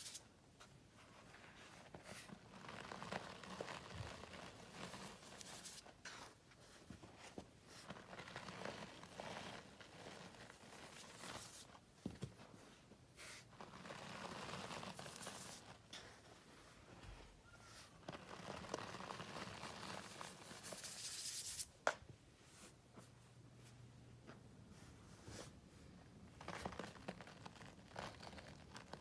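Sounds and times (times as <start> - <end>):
powder crunching and rustling: 1.0 - 21.6, 26.4 - 29.0.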